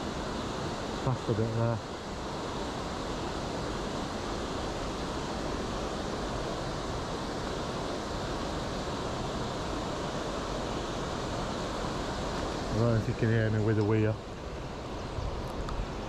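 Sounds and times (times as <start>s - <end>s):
river water pouring over a weir: 0.0s - 16.0s.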